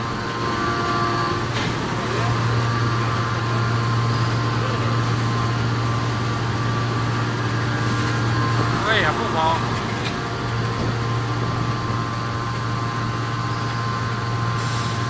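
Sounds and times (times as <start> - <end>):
forging press humming: 0.0 - 15.0.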